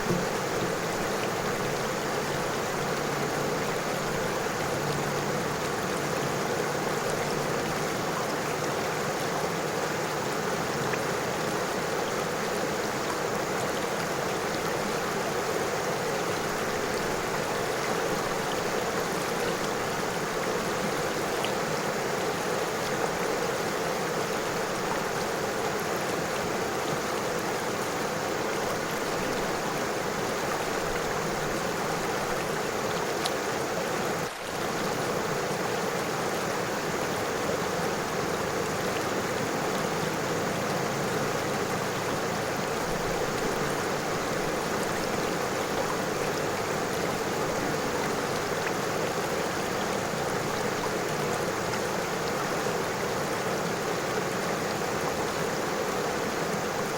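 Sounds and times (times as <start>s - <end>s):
river water flowing over stones: 0.0s - 56.9s.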